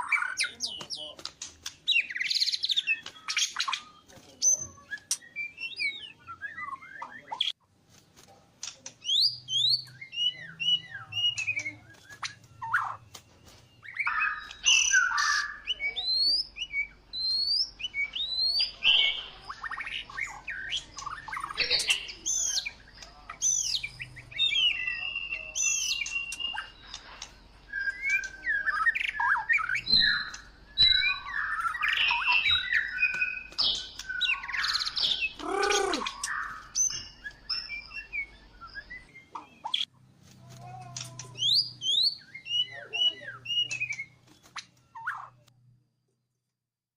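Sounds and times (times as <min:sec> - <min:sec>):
birds calling and singing: 0:00.0 - 0:07.7, 0:08.5 - 0:45.5.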